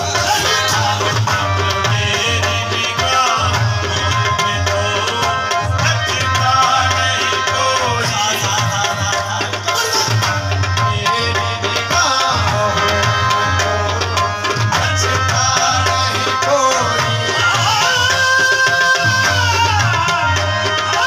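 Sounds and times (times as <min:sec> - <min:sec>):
tabla rhythmic beat: 0:00.0 - 0:21.0.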